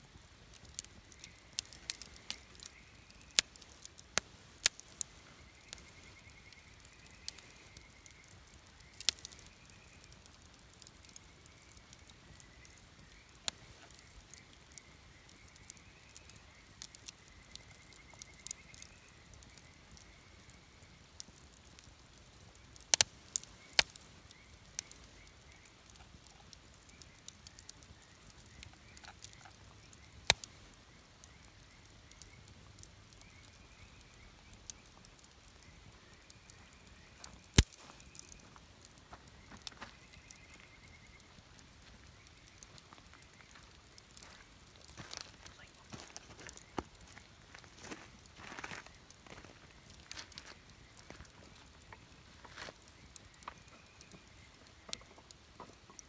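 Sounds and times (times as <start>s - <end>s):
burning wood popping: 0.0s - 56.0s
campfire crackling: 0.0s - 56.0s.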